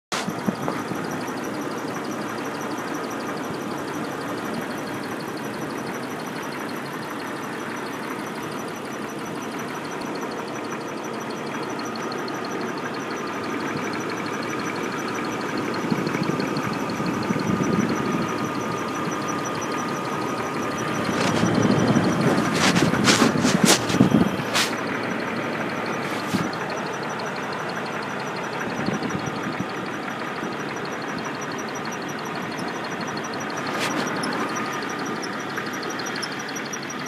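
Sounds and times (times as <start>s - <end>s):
car engine running: 0.1s - 37.0s
thin steady whine: 0.1s - 37.0s
high-pitched ticking chirp: 0.3s - 37.0s.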